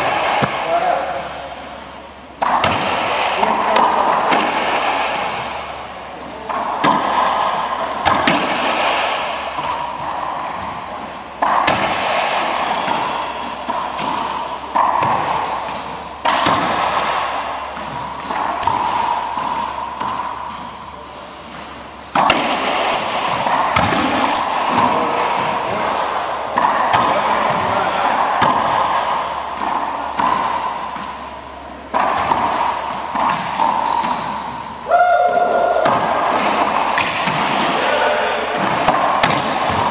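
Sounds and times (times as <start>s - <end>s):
racquetball smack with echo: 0.0s - 39.9s.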